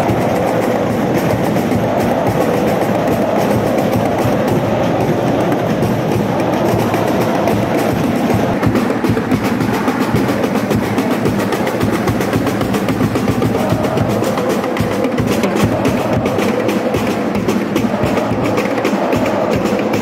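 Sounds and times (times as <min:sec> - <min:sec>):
crowd singing a chant: 0:00.0 - 0:20.0
quick steady drumbeat: 0:00.0 - 0:20.0.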